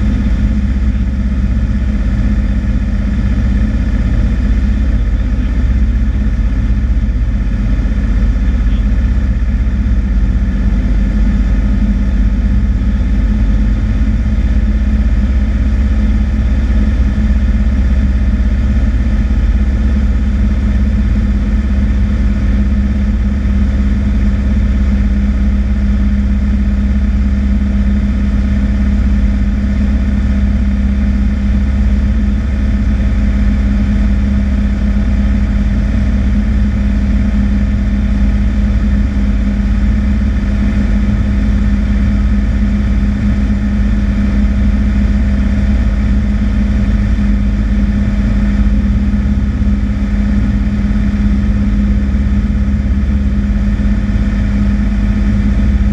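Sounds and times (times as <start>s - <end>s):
airplane engine and propeller: 0.0s - 55.9s.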